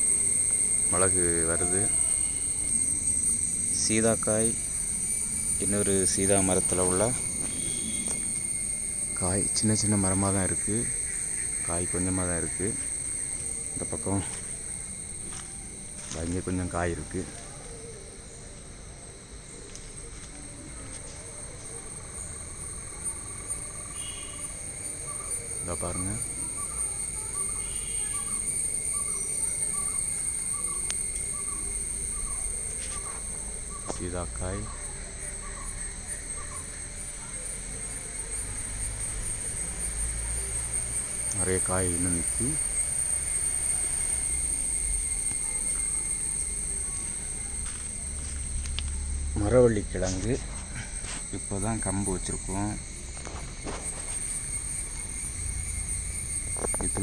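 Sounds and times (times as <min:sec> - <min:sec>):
insects chirping: 0:00.0 - 0:57.0
low pulsing insect trill: 0:00.0 - 0:57.0.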